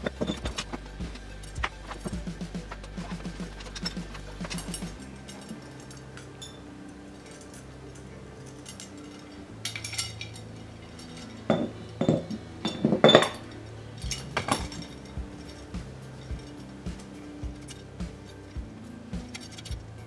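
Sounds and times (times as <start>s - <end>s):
metal spokes clinking: 0.0s - 20.0s
soft background music: 0.0s - 20.0s.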